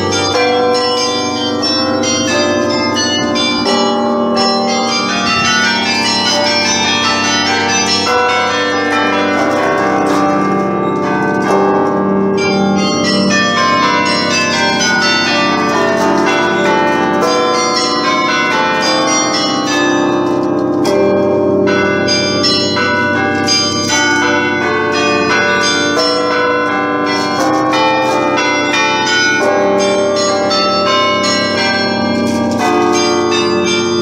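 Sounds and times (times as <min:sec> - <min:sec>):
carillon bells playing melody: 0:00.0 - 0:34.0.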